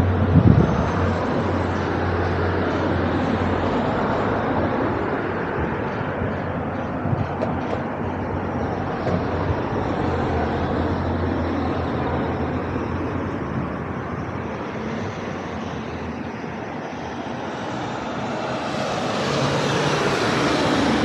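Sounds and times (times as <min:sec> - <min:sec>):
train passing rumble: 0:00.0 - 0:21.0.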